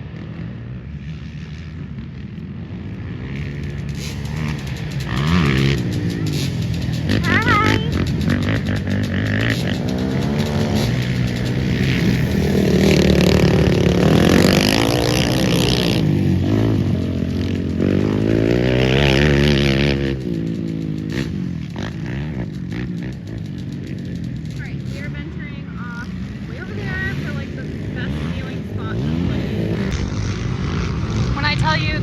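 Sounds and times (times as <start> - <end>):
quad engines revving past: 0.0 - 32.0.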